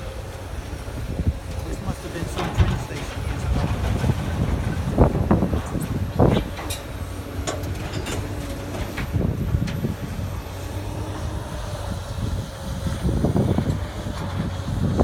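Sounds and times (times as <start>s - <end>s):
excavator diesel engine rumbling: 0.0s - 15.0s.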